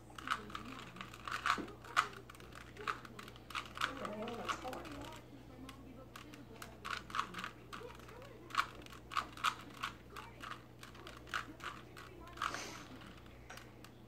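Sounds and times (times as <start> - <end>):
puzzle cube clicking: 0.2 - 5.2, 6.2 - 12.6.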